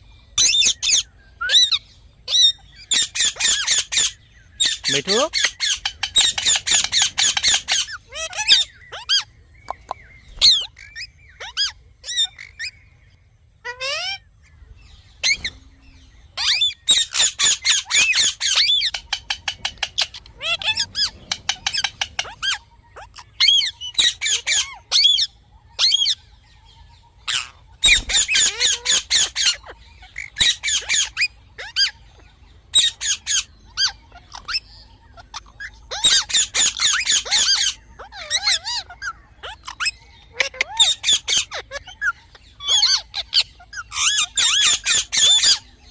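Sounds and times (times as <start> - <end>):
parrot squawking: 0.3 - 12.8, 13.6 - 14.3, 16.4 - 26.2, 27.1 - 45.7.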